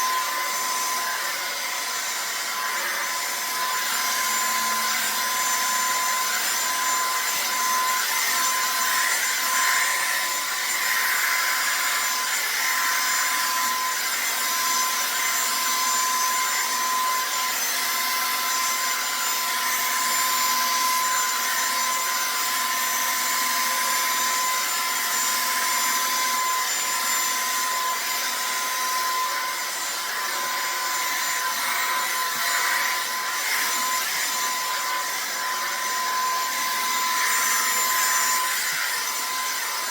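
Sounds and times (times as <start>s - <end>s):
hair dryer brush blowing: 0.0s - 39.9s.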